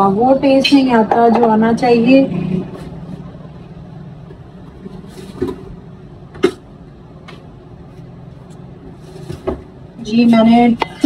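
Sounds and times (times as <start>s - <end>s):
low rumble of kitchen noise: 0.0s - 11.0s.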